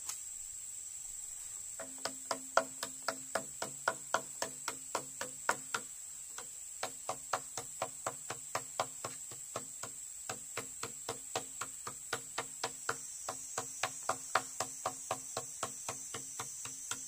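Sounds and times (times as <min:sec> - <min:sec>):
high insect drone: 0:00.0 - 0:17.0
tool knocking on wood: 0:01.8 - 0:17.0.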